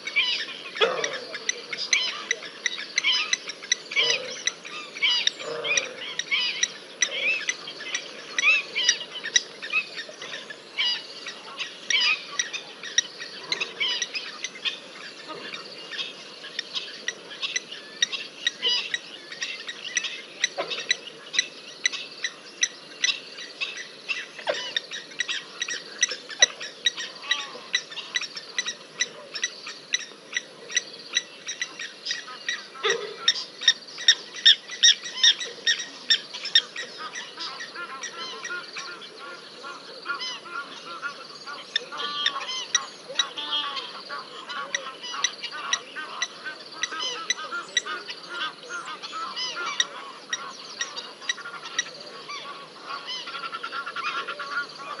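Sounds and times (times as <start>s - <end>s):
high-pitched animal calls: 0.1s - 21.0s, 21.8s - 55.0s.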